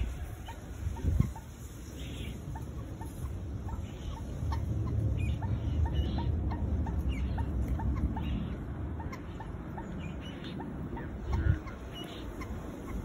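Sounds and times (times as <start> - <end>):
chicks peeping: 0.0 - 13.0
moorhens calling short notes: 0.0 - 13.0.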